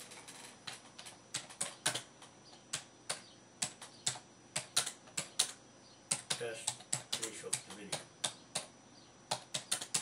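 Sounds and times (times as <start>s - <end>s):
computer keyboard typing: 0.0s - 8.7s, 9.3s - 10.0s.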